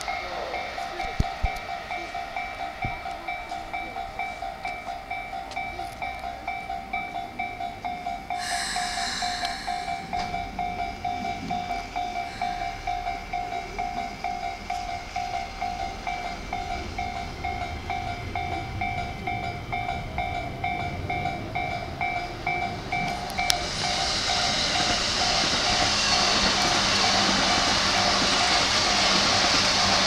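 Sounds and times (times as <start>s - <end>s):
electric train rolling past: 0.0s - 30.0s
level-crossing warning bell: 0.0s - 30.0s.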